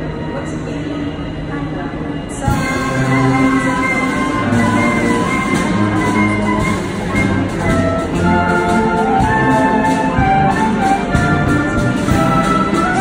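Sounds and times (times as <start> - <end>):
military wind band playing: 2.4 - 13.0.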